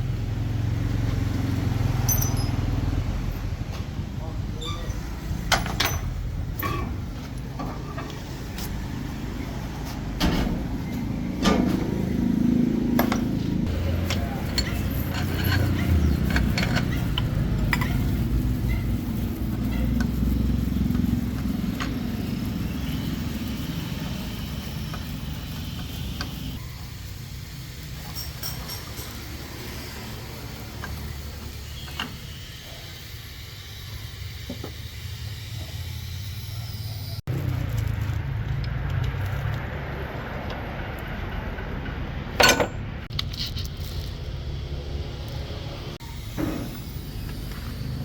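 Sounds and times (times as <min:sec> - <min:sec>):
low engine rumble: 0:00.0 - 0:48.0.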